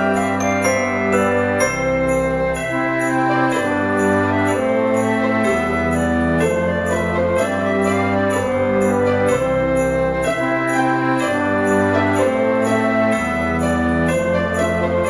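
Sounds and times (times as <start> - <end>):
christmas-style background music: 0.0 - 15.0
sleigh bells shaking in rhythm: 0.0 - 15.0.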